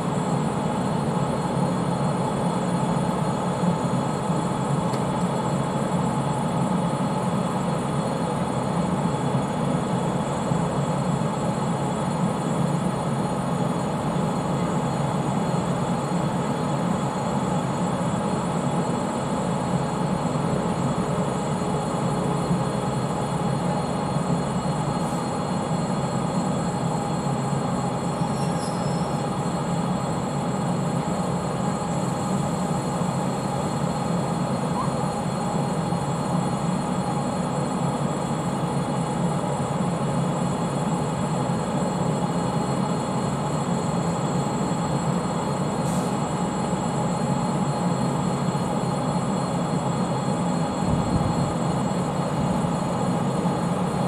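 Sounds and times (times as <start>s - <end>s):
locomotive machinery humming: 0.0s - 54.0s.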